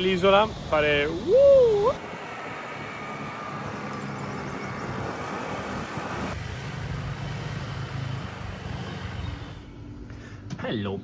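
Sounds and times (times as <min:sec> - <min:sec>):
road noise: 0:00.0 - 0:10.2.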